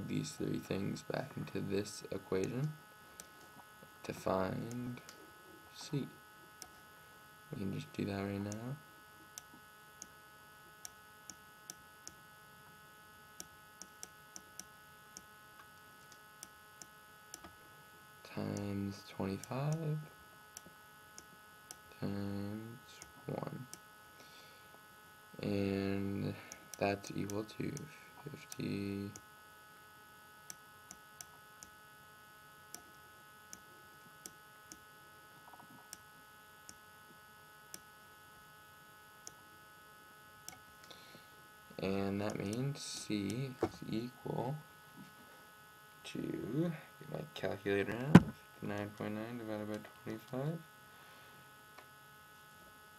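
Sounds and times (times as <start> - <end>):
electrical hum: 0.0 - 52.9.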